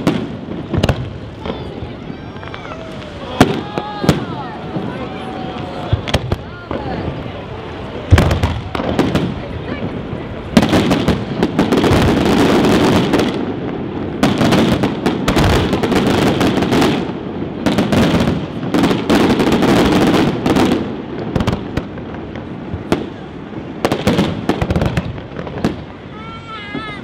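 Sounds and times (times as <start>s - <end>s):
continuous fireworks rumble: 0.0s - 27.0s
fireworks bursting: 0.0s - 27.0s.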